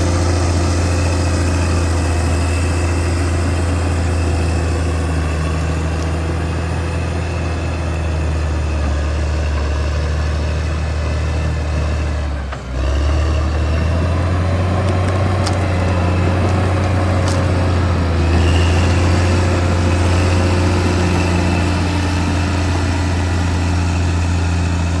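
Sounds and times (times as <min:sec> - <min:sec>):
bulldozer diesel engine humming: 0:00.0 - 0:25.0.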